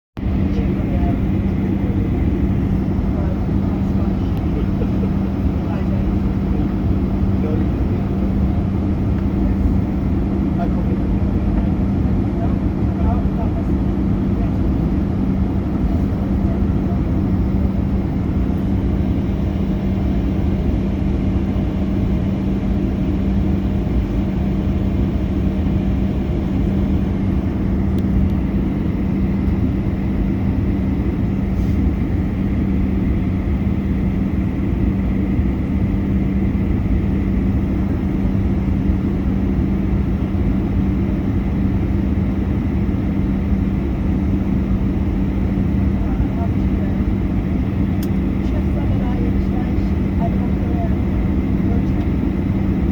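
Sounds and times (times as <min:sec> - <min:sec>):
constant low hum: 0:00.2 - 0:52.9
jet engines droning: 0:00.2 - 0:52.9.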